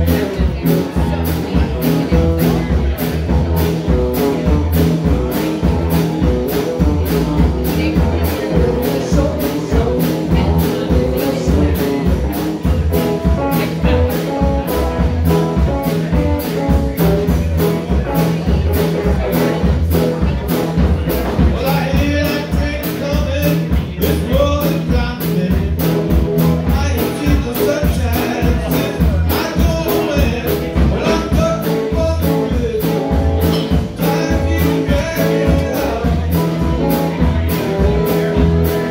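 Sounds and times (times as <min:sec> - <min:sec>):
live blues-rock band playing: 0:00.0 - 0:38.9.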